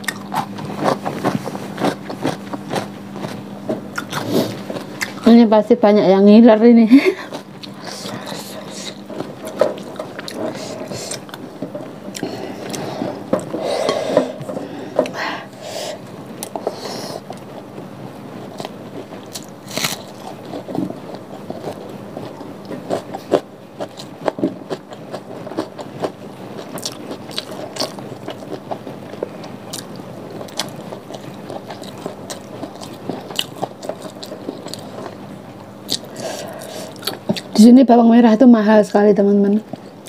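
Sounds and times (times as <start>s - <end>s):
chewing and crunching: 0.0s - 5.4s, 7.1s - 15.2s, 16.4s - 37.6s.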